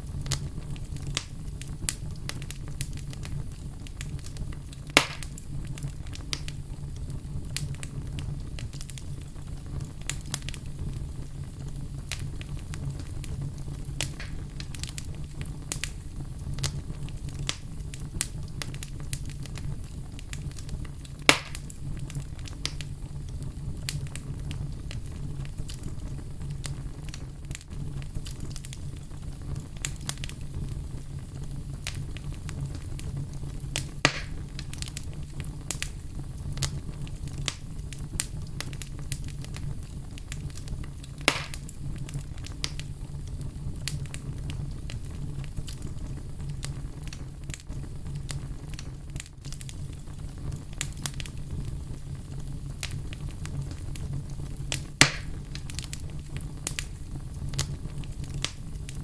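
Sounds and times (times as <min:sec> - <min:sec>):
fire crackling: 0:00.0 - 0:59.0
loud fire pops: 0:00.0 - 0:59.0.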